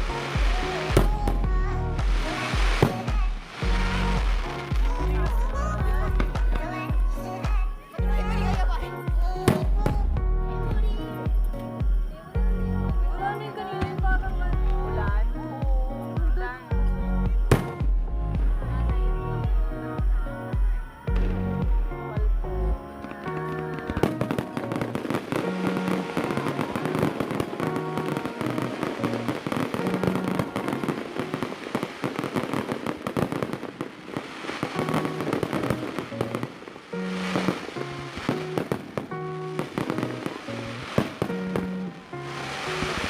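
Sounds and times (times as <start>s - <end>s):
fireworks crackling: 0.0s - 43.0s
music with sustained notes: 0.0s - 43.0s.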